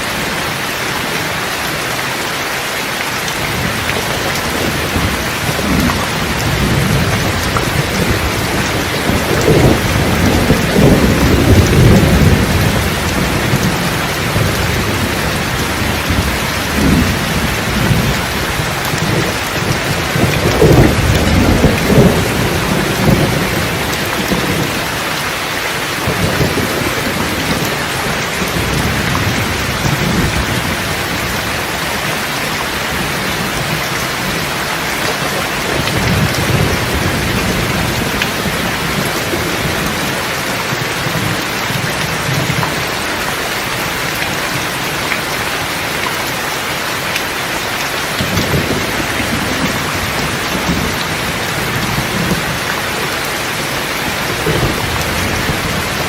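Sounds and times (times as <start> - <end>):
heavy rain: 0.0 - 56.0
low rolling thunder: 3.4 - 25.2, 25.9 - 34.6, 35.2 - 43.1, 48.1 - 56.0.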